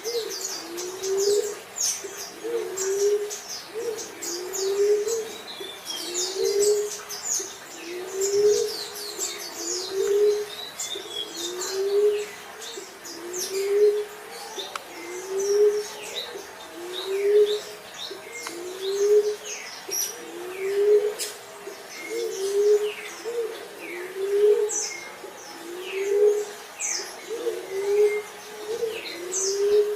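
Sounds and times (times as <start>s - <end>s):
dove cooing: 0.0s - 29.9s
small birds chirping: 0.0s - 29.9s.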